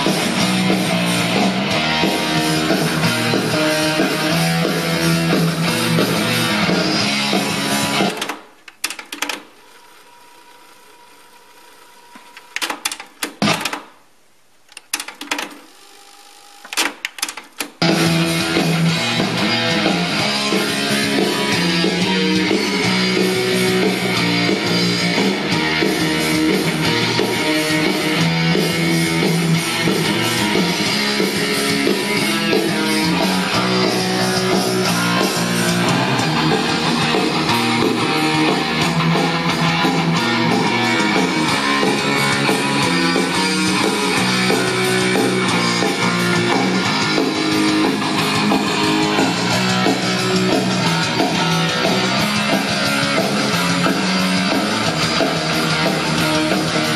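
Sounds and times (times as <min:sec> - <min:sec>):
guitar music over loudspeakers: 0:00.0 - 0:08.2, 0:17.8 - 0:56.9.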